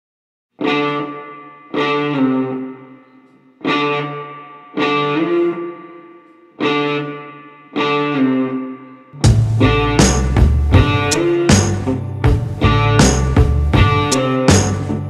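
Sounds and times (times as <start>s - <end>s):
electric guitar chords ringing: 0.6s - 15.0s.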